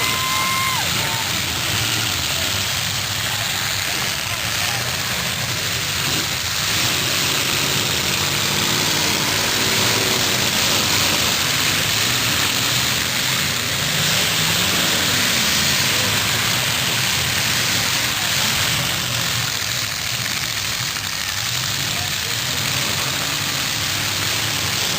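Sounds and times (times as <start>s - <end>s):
car engines running loudly: 0.0s - 24.9s.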